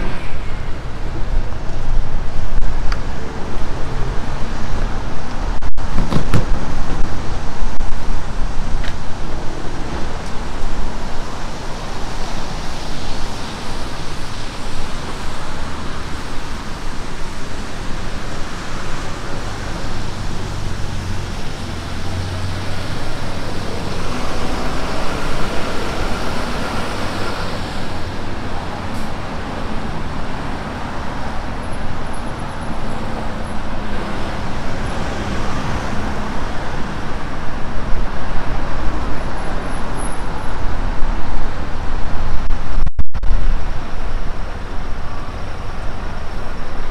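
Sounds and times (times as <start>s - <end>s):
tyres hissing on wet road: 0.0s - 42.4s, 43.4s - 46.9s
car engines humming: 0.0s - 46.9s
wind buffeting microphone: 0.0s - 46.9s.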